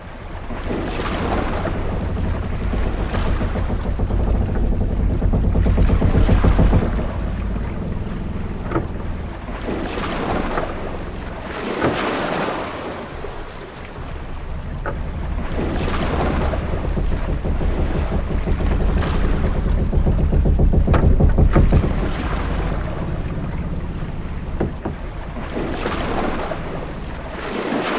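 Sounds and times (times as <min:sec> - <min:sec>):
waves washing against hull: 0:00.0 - 0:27.9
ship creaks and knocks: 0:00.1 - 0:27.9
low rumble: 0:00.3 - 0:11.7, 0:13.1 - 0:27.7.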